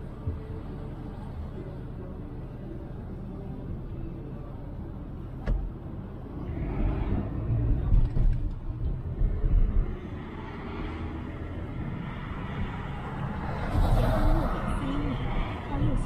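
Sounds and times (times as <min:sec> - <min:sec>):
car driving at highway speed: 0:00.0 - 0:16.0.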